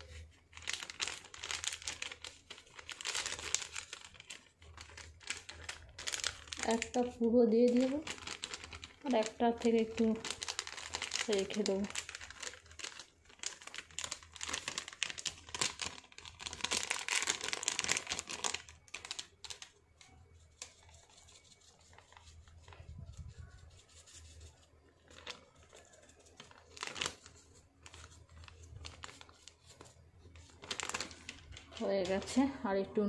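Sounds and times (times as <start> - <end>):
plastic packet tearing open: 0.0 - 19.8, 25.0 - 32.4
plastic packets crinkling: 0.0 - 32.7.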